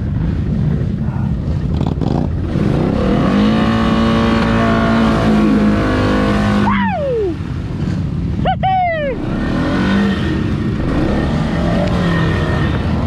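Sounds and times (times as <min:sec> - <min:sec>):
atv engine revving: 0:00.0 - 0:08.3, 0:09.0 - 0:13.0.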